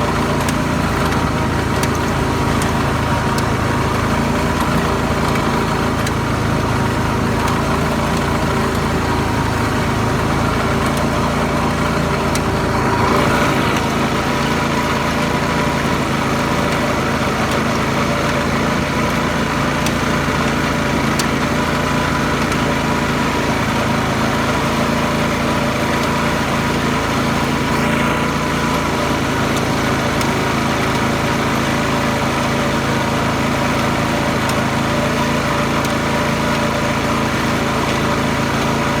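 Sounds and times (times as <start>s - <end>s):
garden tractor engine running: 0.0s - 39.0s.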